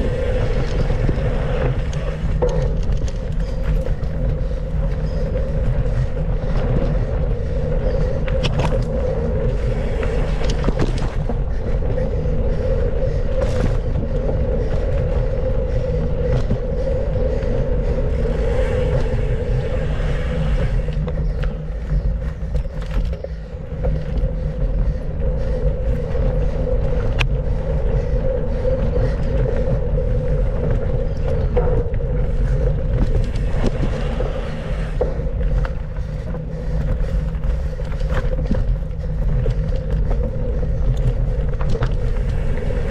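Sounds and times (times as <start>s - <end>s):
bike rattles and knocks: 0.0s - 42.9s
bike rumble and wind noise: 0.0s - 42.9s
mid-pitched hum: 0.0s - 42.9s.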